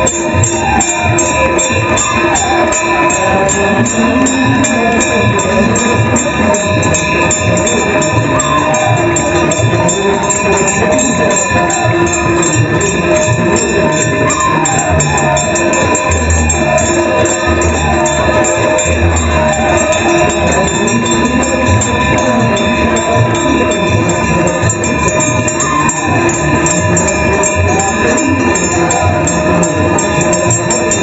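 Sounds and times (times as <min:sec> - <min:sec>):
drum beats: 0:00.0 - 0:31.0
jingling percussion: 0:00.0 - 0:31.0
ringing tones: 0:00.0 - 0:31.0
wavering melody: 0:00.0 - 0:31.0.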